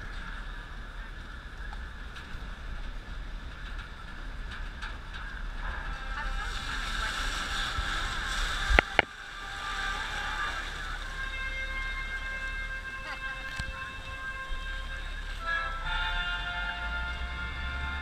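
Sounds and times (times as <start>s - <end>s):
vehicle engine and road noise: 0.0s - 18.0s
water rushing along hull: 0.0s - 18.0s.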